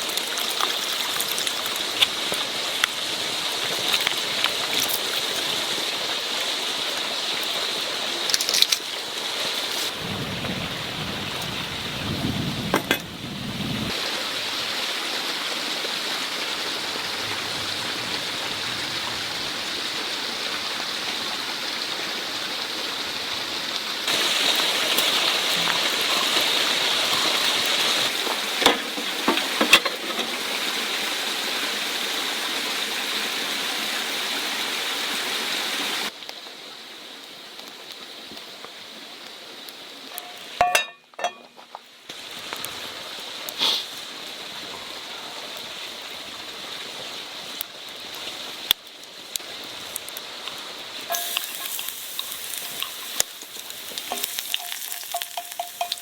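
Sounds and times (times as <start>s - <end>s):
food sizzling in a pan: 0.0s - 17.9s, 19.8s - 56.0s.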